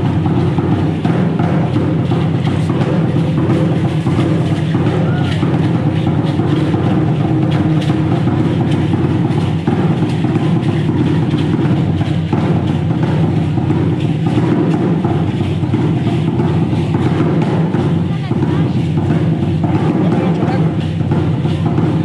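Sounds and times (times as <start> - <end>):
drums beating steadily: 0.0 - 22.0.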